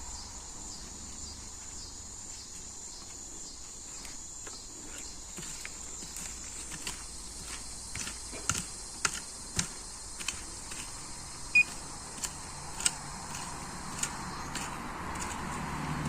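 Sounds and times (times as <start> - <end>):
high insect chirring: 0.0 - 16.0.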